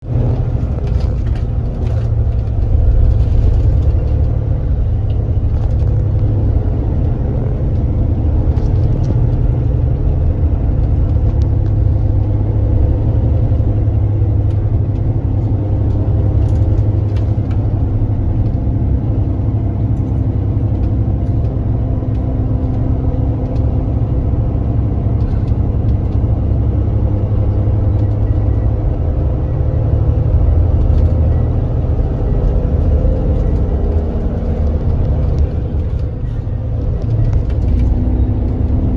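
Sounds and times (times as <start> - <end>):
coach engine droning: 0.0 - 38.9.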